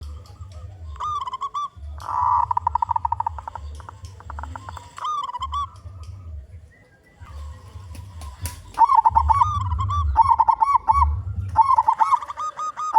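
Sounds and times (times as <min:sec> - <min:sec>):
dove cooing: 0:00.0 - 0:12.9
rapid staccato bird notes: 0:00.0 - 0:12.9.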